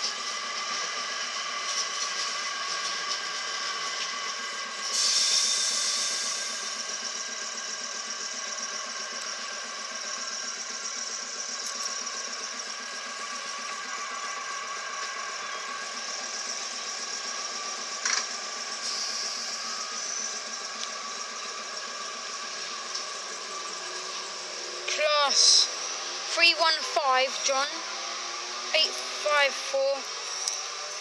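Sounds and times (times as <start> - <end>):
train electrical hum: 0.0 - 31.0.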